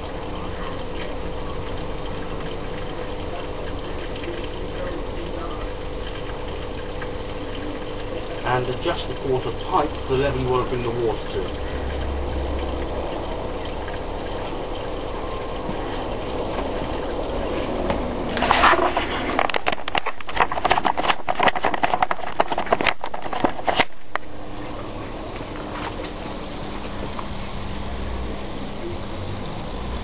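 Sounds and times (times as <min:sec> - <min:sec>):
crackling and popping: 0:00.0 - 0:24.4
steady hum: 0:00.0 - 0:30.0
water gurgling and bubbling: 0:00.0 - 0:30.0.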